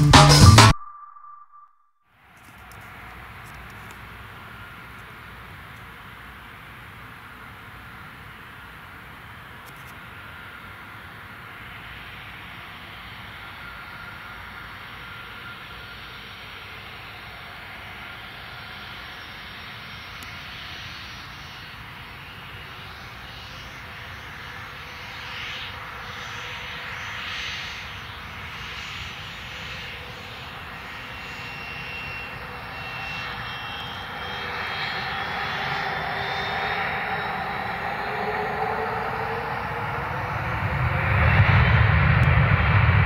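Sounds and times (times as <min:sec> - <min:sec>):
jet engines hissing and whining: 0:02.4 - 0:43.0.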